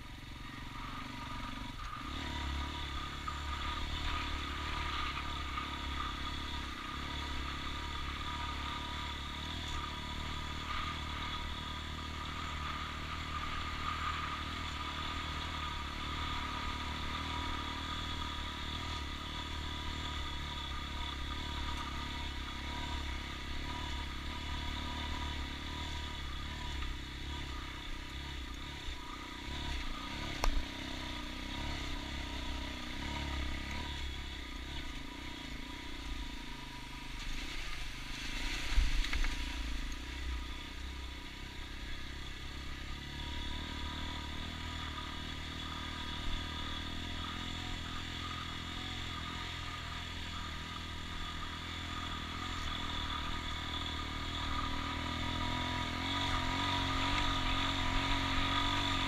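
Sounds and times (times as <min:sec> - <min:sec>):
gravel road rumble: 0:00.0 - 0:59.0
vehicle engine running: 0:00.0 - 0:59.0.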